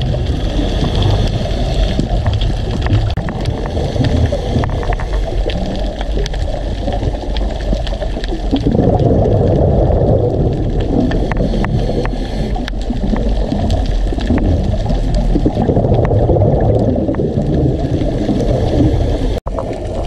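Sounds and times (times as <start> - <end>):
crackling clicks: 0.0 - 20.0
underwater rush of water: 0.0 - 20.0.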